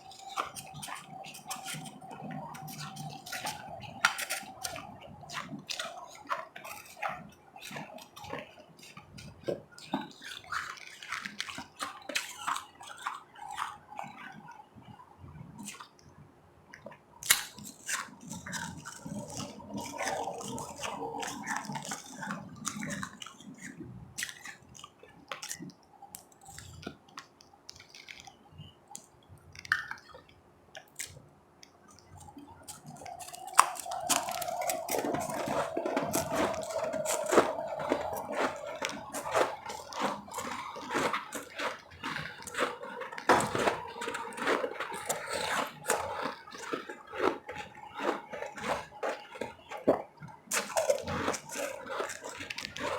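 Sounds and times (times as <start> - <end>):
ice crunching in mouth: 0.0 - 14.6, 15.4 - 16.0, 16.7 - 52.9.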